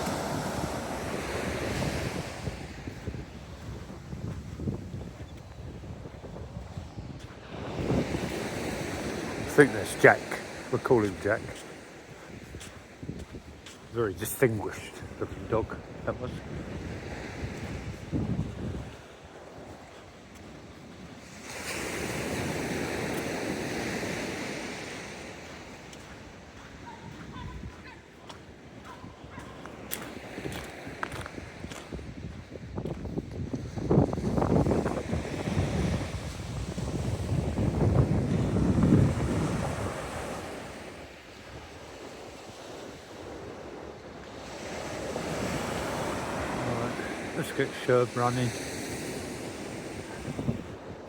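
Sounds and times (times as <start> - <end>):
wind buffeting microphone: 0.0 - 47.4, 48.9 - 51.0
sea waves breaking: 0.0 - 51.0.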